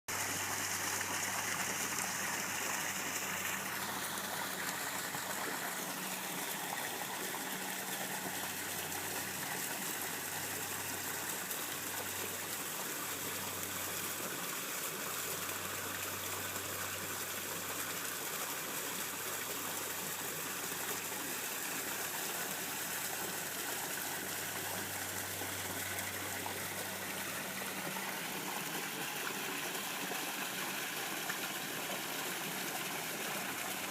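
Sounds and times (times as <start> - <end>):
garden waterfall splashing: 0.1 - 33.9.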